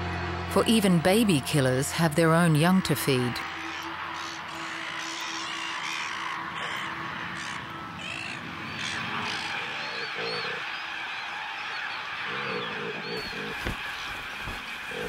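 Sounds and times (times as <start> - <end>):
gulls calling: 0.7 - 15.0.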